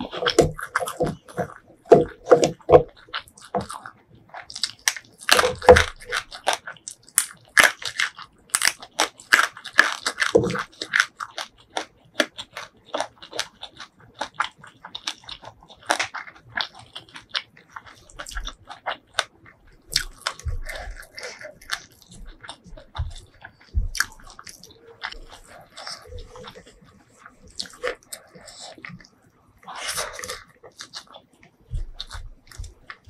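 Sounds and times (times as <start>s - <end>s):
person chewing crunchy food: 0.0s - 33.0s.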